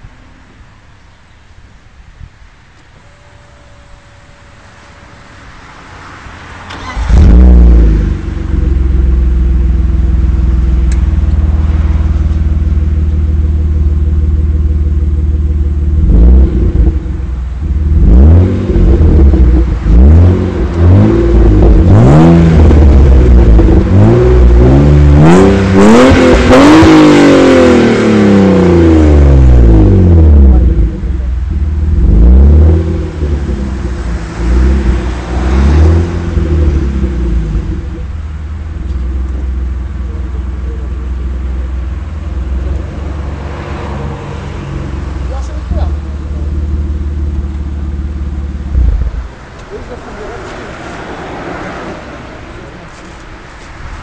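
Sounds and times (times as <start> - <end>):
car engine idling: 0.0 - 54.0
car engine starting: 2.6 - 54.0
car engine revving in bursts: 6.4 - 53.0.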